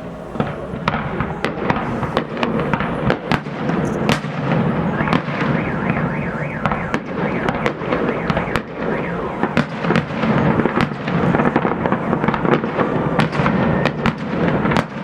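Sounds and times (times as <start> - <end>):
continuous dense din: 0.0 - 15.0
firework shells bursting: 0.0 - 15.0.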